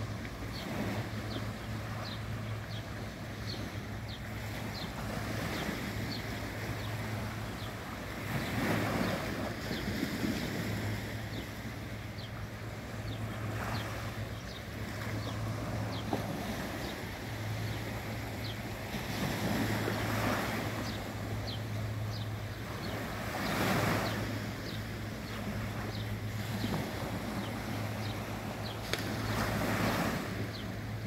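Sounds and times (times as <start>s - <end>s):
sea waves washing onto beach: 0.0s - 31.0s
steady low hum: 0.0s - 31.0s.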